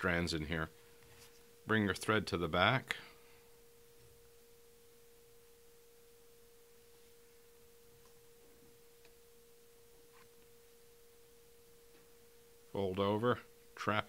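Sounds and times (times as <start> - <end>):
faint steady tone: 0.0 - 14.0.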